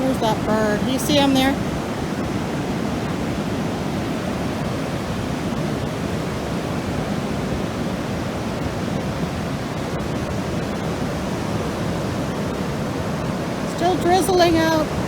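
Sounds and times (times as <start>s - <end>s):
surf roaring: 0.0s - 15.0s.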